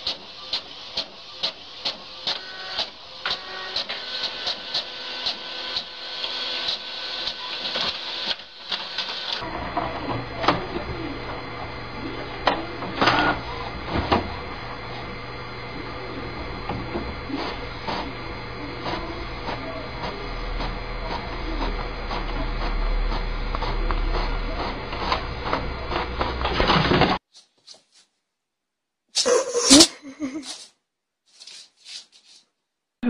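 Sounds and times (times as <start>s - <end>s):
printer whirring: 0.0s - 27.2s.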